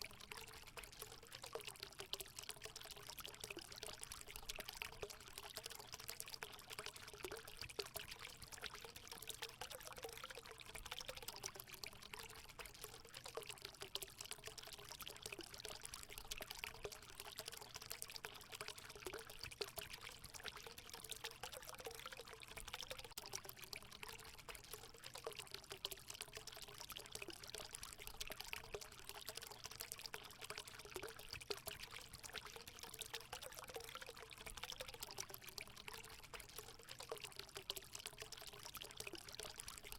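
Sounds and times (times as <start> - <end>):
water pouring into a pool: 0.0 - 39.9.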